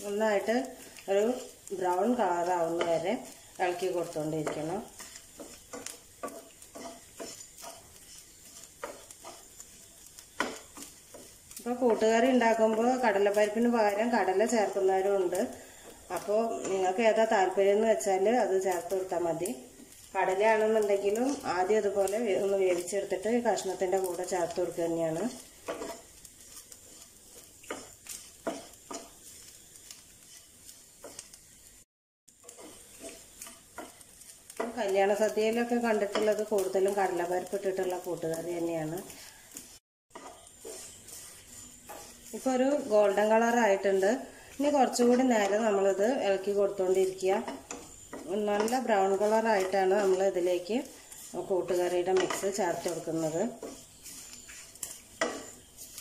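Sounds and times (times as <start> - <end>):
light sizzle: 0.0 - 56.0
wooden spatula scraping a pan: 0.0 - 56.0.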